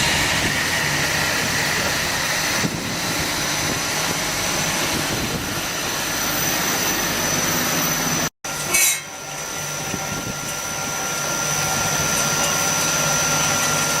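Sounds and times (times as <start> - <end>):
high whine: 0.0 - 14.0
industrial machinery running: 0.0 - 14.0.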